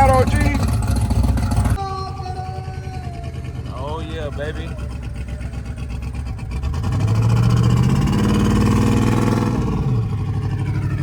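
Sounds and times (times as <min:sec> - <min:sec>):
car engine revving: 0:00.0 - 0:01.8, 0:02.6 - 0:11.0.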